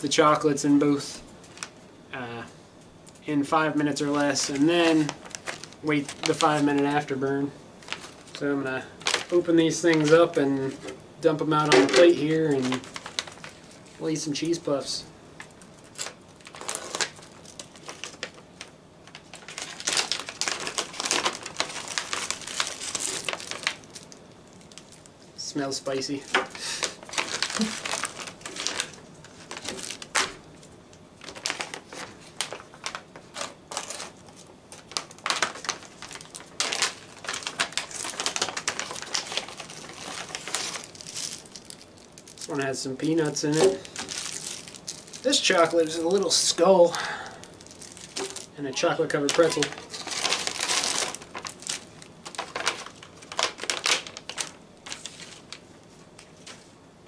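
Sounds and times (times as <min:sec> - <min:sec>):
plastic snack pouches crinkling: 0:03.6 - 0:55.6.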